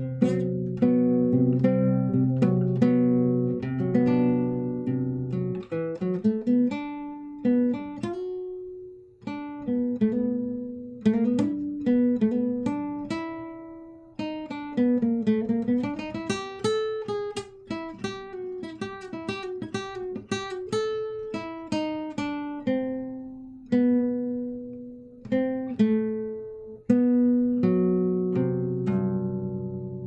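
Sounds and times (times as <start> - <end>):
solo guitar: 0.0 - 30.0.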